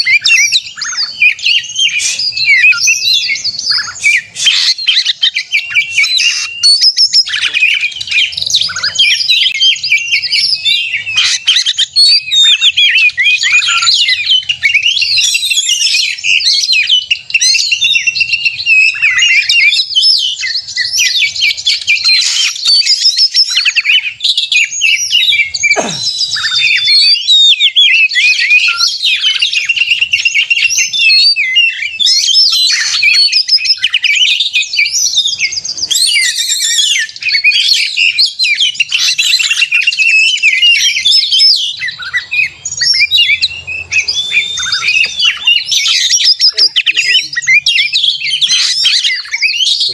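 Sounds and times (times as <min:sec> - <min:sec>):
magpie-robin singing: 0:00.0 - 0:49.9.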